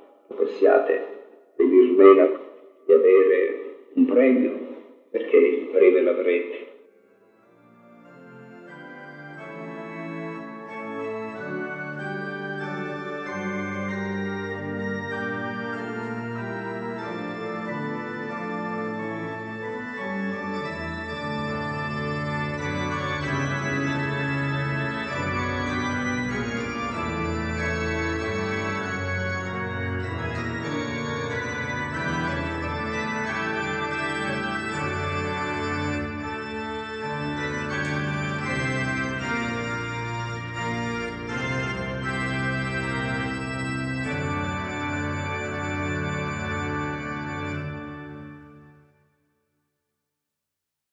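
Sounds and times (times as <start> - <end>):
organ playing held chords: 0.0 - 6.6, 7.2 - 49.0.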